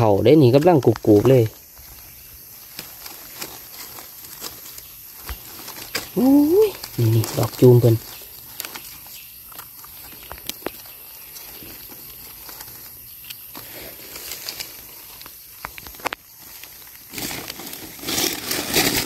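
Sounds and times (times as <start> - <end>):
dry leaves crunching and rustling: 0.0 - 19.0
sharp clicks and crackles: 2.6 - 13.6, 14.3 - 19.0.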